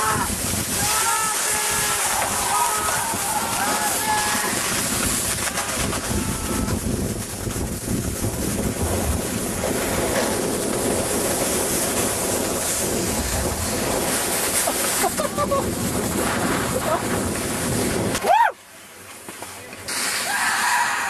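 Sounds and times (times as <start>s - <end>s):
wind buffeting microphone: 0.0s - 18.3s.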